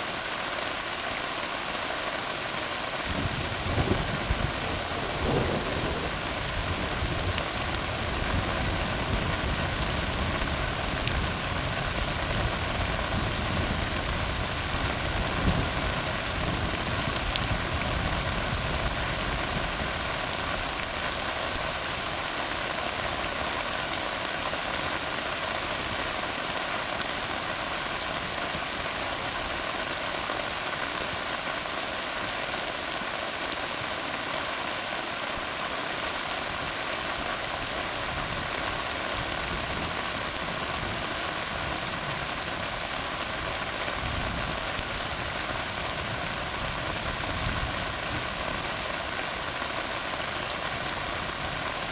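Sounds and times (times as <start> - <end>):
rain falling on road: 0.0 - 51.9.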